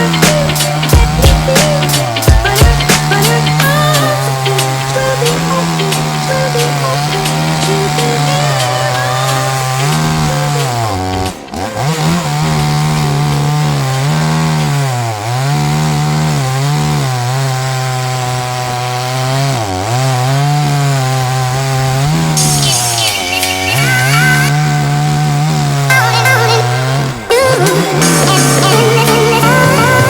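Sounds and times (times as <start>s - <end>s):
chainsaw ripping a log: 0.0s - 30.0s.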